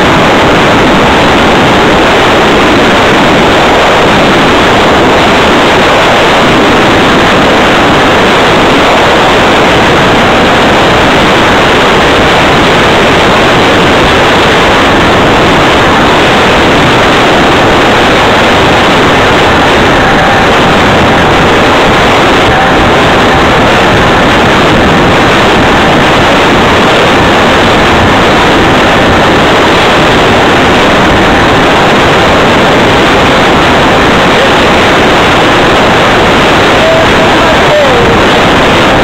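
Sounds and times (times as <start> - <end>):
road and traffic noise: 0.0 - 39.0
wind buffeting microphone: 0.0 - 39.0.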